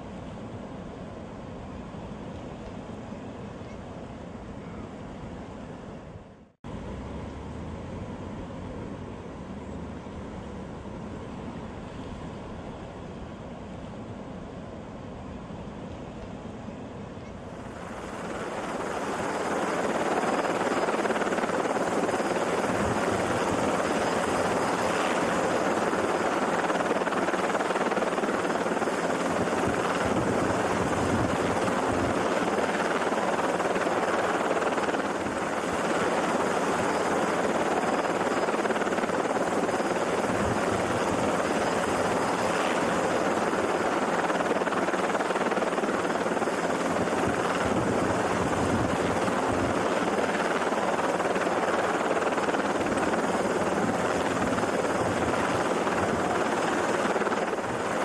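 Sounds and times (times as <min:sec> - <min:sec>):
helicopter rotor and engine noise: 0:00.0 - 0:58.0.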